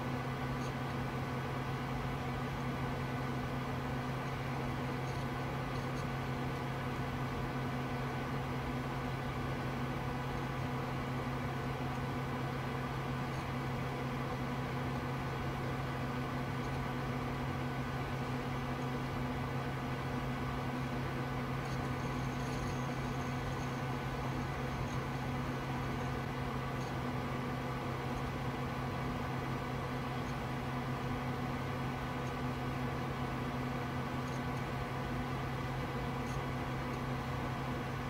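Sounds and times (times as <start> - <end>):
computer fans whirring: 0.0 - 38.0.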